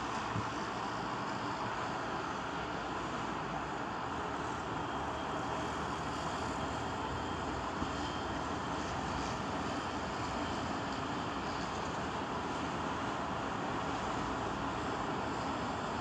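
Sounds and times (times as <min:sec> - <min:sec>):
crane engine running: 0:00.0 - 0:16.0.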